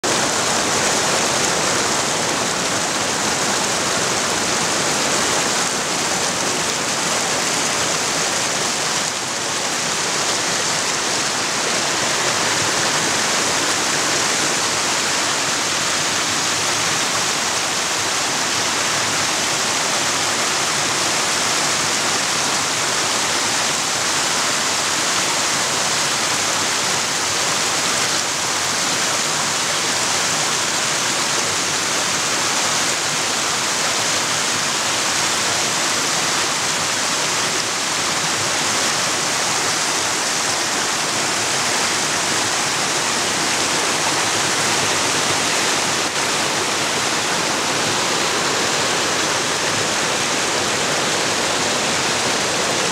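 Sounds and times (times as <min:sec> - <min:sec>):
stream rushing over boulders: 0:00.0 - 0:52.9.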